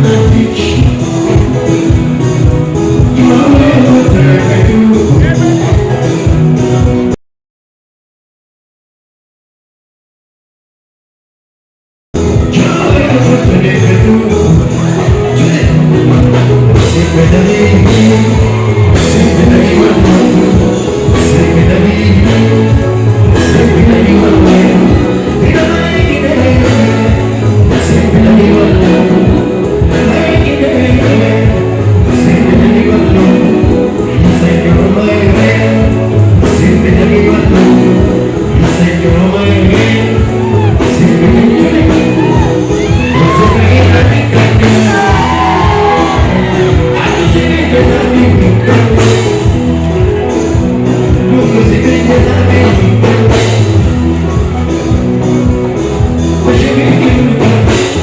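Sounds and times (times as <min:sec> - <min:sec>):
live rock band with male singer: 0:00.0 - 0:07.2, 0:12.2 - 0:58.0.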